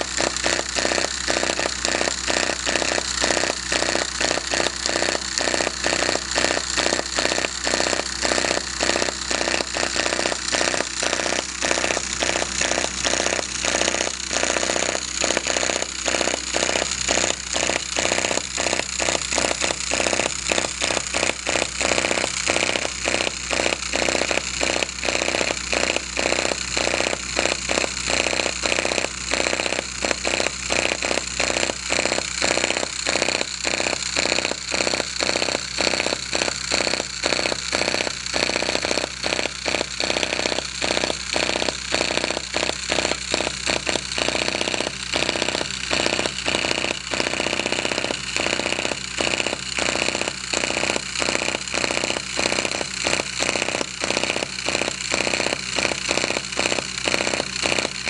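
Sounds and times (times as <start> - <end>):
small engine firing pops: 0.0 - 58.0.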